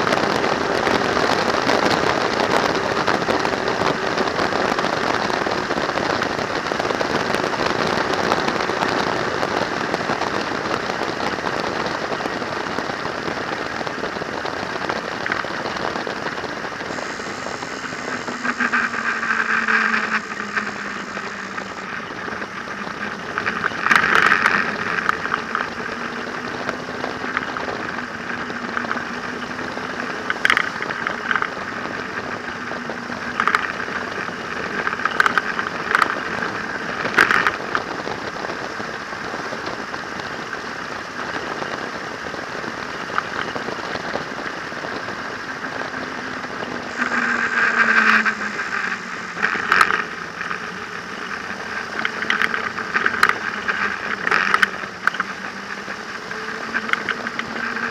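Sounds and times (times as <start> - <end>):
trike engine running: 0.0 - 57.9
wind rushing over microphone: 0.0 - 57.9.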